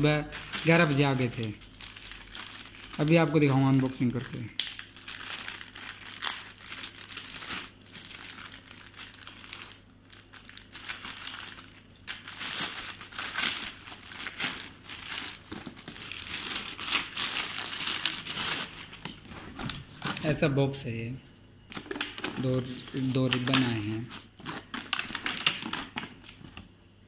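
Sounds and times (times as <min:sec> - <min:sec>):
plastic tearing: 0:00.0 - 0:20.4, 0:21.7 - 0:26.6
plastic bag crinkling: 0:00.0 - 0:20.5, 0:21.8 - 0:26.6.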